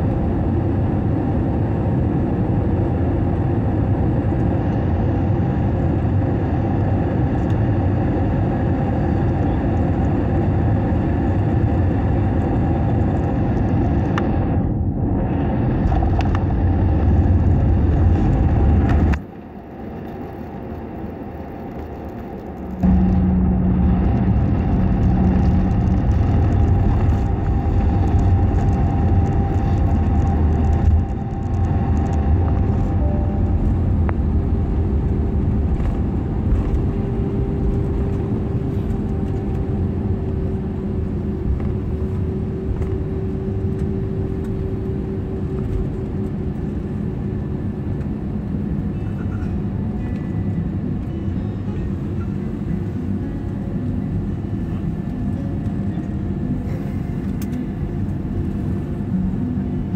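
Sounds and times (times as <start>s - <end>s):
engine and wheel rumble: 0.0s - 59.9s
faint engine whine: 0.0s - 59.9s.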